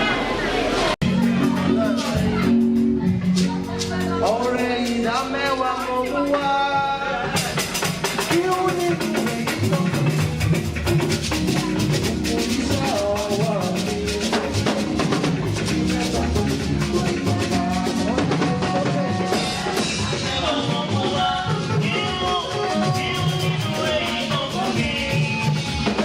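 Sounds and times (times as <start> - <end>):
bass: 0.0 - 26.0
drum kit fast beat: 1.0 - 26.0
pitched instruments: 1.0 - 26.0.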